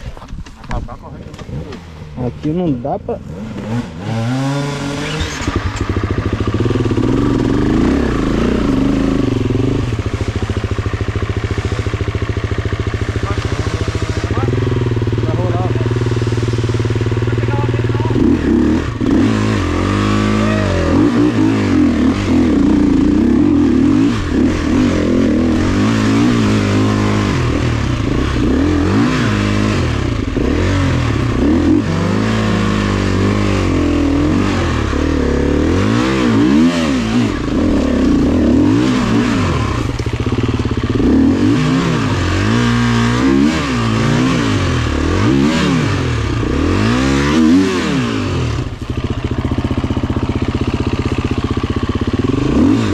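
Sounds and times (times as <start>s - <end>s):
dirt bike engine revving: 1.0s - 52.9s.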